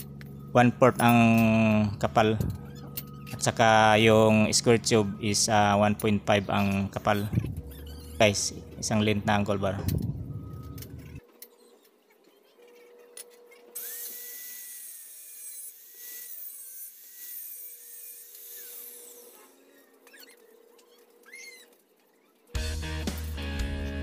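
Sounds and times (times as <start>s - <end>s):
power tool whining: 0.0s - 24.0s.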